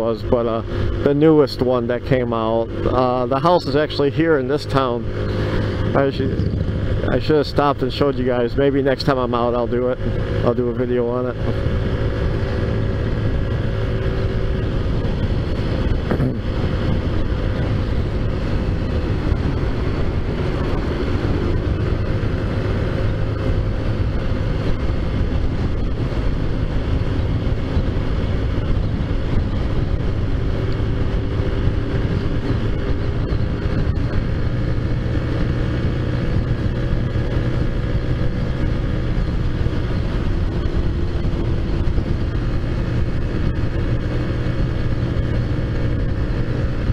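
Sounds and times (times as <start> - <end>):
road noise: 0.0 - 46.9
wind rush: 3.8 - 46.9
scooter engine running: 9.3 - 46.9.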